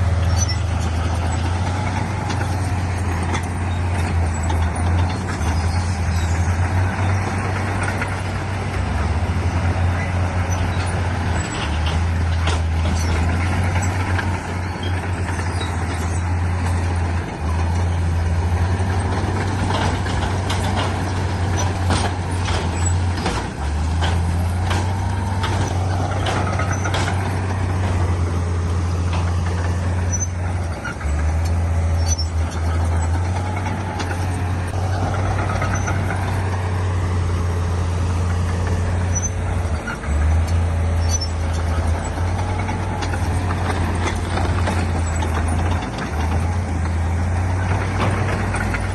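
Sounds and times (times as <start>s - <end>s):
clanks and knocks: 0.0s - 48.9s
diesel earthmoving machinery droning: 0.0s - 48.9s.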